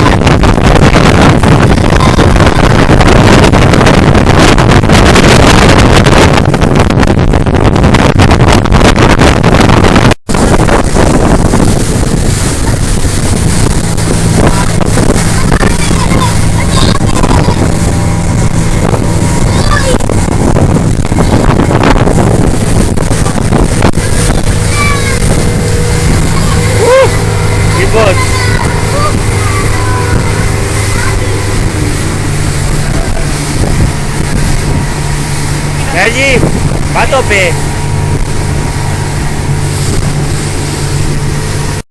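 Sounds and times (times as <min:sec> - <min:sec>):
motorboat engine running: 0:00.0 - 0:41.8
water noise: 0:00.0 - 0:41.8
wind buffeting microphone: 0:00.0 - 0:41.8.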